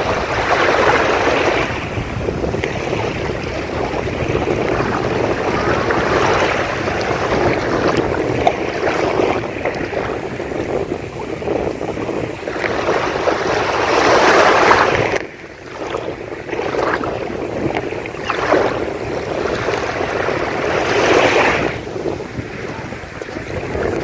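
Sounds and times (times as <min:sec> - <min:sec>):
sea waves breaking on beach: 0:00.0 - 0:24.0.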